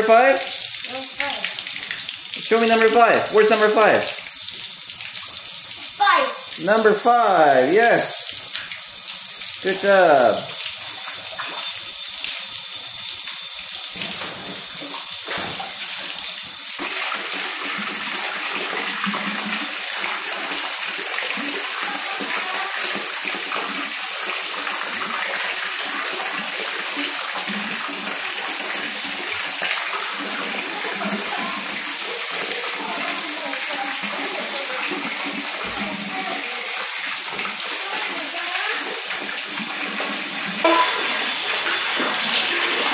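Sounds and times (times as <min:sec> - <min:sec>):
water pouring into stone tub: 0:00.0 - 0:42.9.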